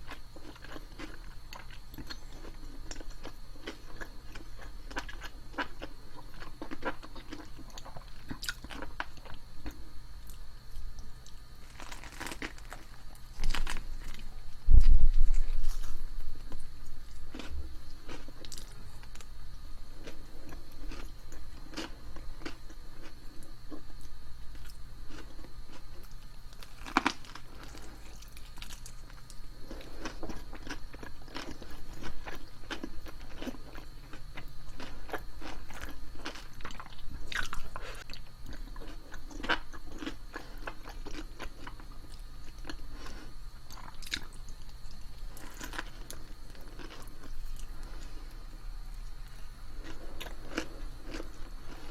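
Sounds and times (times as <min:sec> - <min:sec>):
crunching and chewing: 0:00.0 - 0:51.9
faint high whine: 0:00.0 - 0:51.9.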